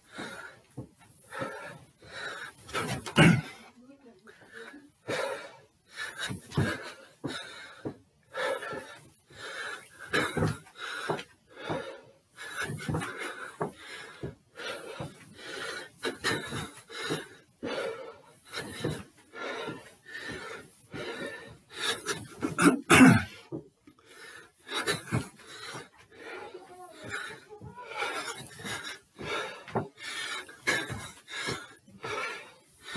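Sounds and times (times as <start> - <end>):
man breathing heavily: 0.0 - 32.9
footsteps on stairs: 0.1 - 32.9.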